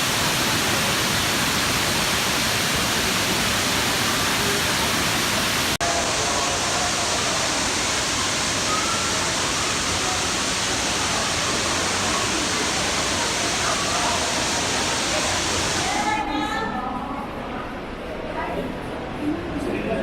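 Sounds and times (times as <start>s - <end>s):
waterfall rushing: 0.0s - 16.2s.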